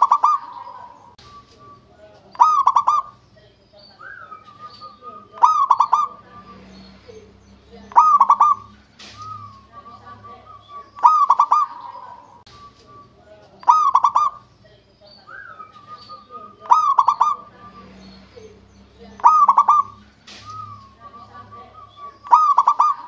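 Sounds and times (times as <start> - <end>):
dove cooing: 0.0 - 3.2, 4.0 - 6.6, 7.9 - 14.5, 15.3 - 17.9, 19.1 - 23.0.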